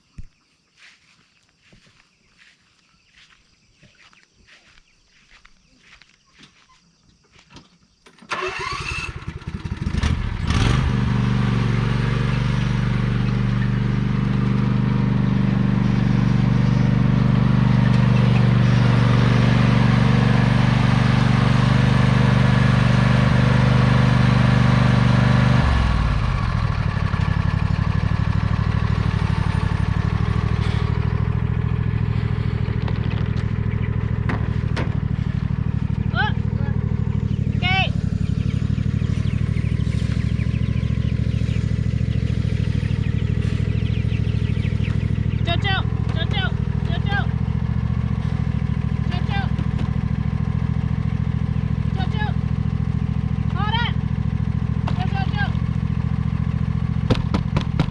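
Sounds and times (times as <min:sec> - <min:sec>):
riding lawnmower engine running: 0:07.3 - 0:57.9.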